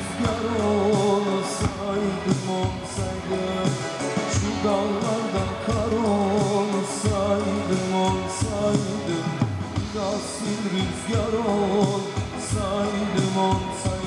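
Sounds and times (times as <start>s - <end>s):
band instruments with steady beat: 0.0s - 14.0s
person singing a melody: 0.0s - 14.0s.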